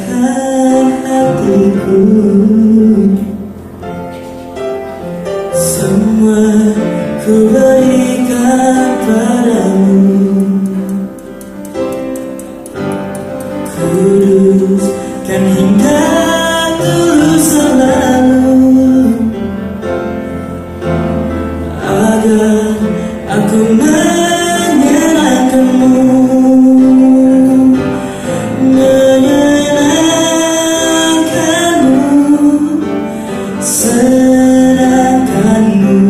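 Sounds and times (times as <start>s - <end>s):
man singing into a microphone: 0.0s - 3.7s, 5.5s - 11.4s, 13.5s - 19.9s, 21.6s - 36.0s
musical accompaniment: 0.0s - 36.0s.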